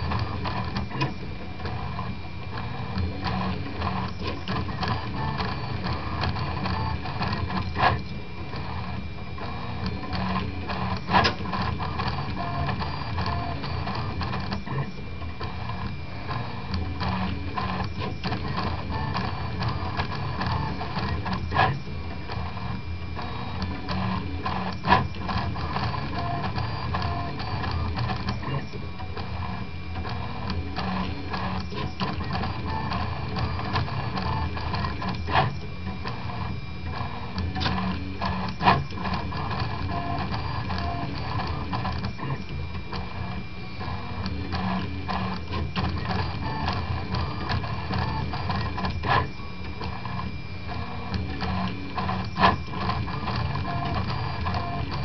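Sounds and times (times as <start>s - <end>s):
printer stepper motors whirring: 0.0s - 55.0s.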